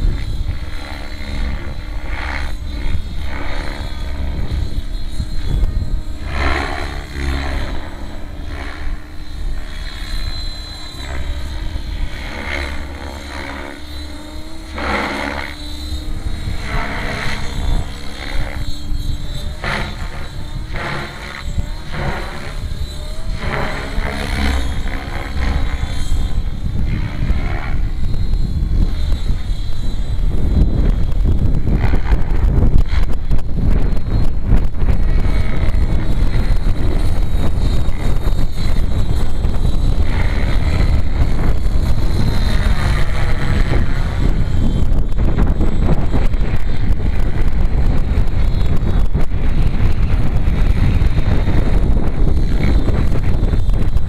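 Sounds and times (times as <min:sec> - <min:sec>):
model helicopter rotor and motor: 0:00.0 - 0:54.0.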